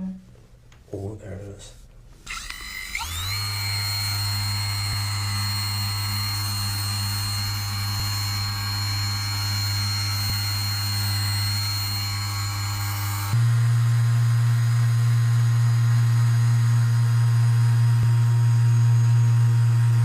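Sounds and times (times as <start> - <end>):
electric massager buzzing: 2.2 - 20.0.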